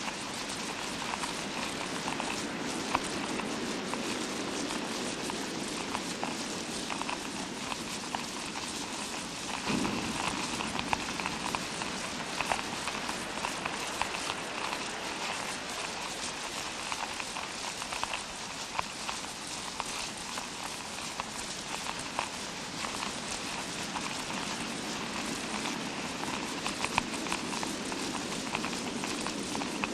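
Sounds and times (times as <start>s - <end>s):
rain sound effect hiss: 0.0s - 29.9s.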